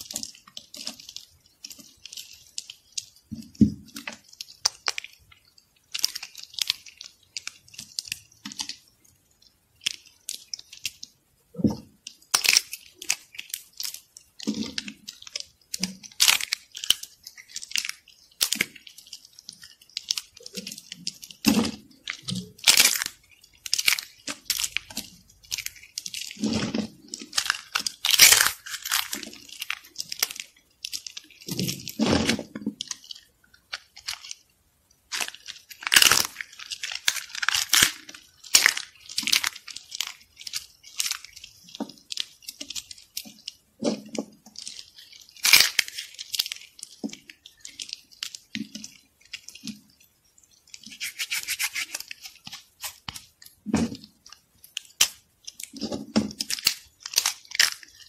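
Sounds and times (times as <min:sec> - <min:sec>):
soap shavings crunching: 0:00.0 - 0:34.5, 0:35.1 - 0:58.0.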